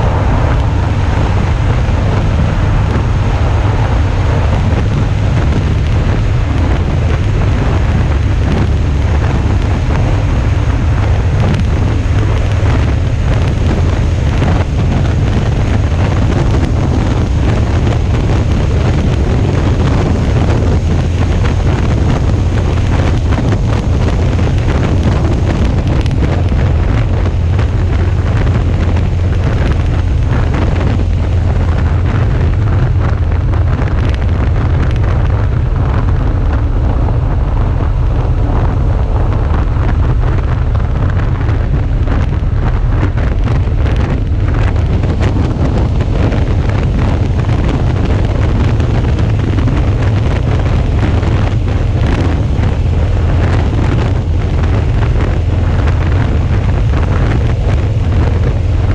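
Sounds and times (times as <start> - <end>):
motorcycle engine and road noise: 0.0 - 58.9
wind buffeting microphone: 0.0 - 58.9.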